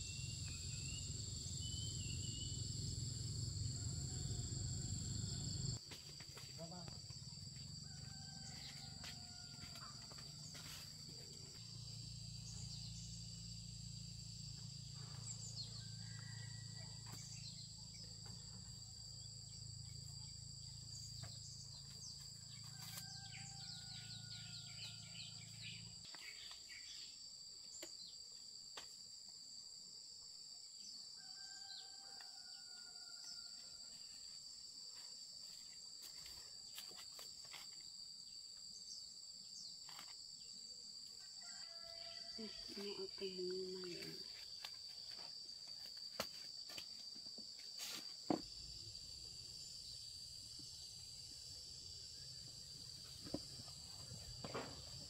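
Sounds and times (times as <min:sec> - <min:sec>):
insects chirring: 0:00.0 - 0:29.8, 0:30.8 - 0:55.0.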